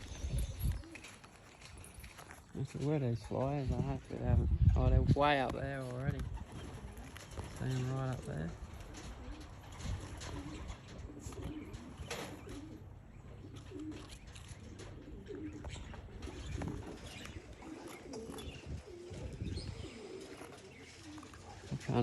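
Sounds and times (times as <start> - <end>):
pigeons cooing: 0.0 - 2.0, 2.8 - 22.0.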